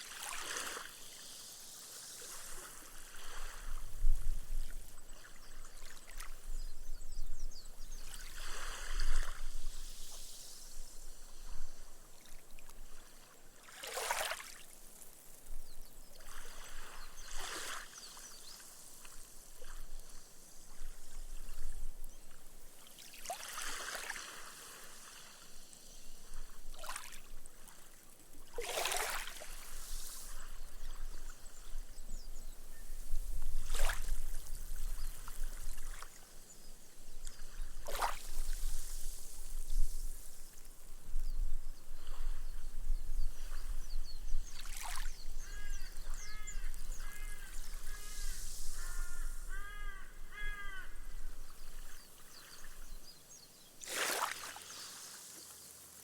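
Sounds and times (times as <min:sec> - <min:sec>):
gentle waves lapping on sand: 0:00.0 - 0:06.9, 0:07.7 - 0:49.5, 0:51.0 - 0:56.0.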